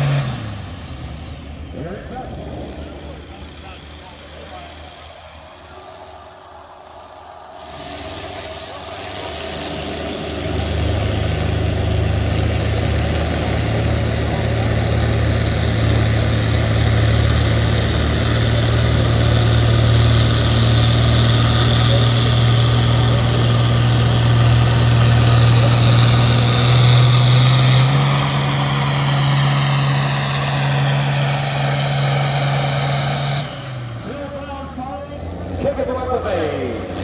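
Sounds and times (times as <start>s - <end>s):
tractor engine under load: 0.0s - 37.0s.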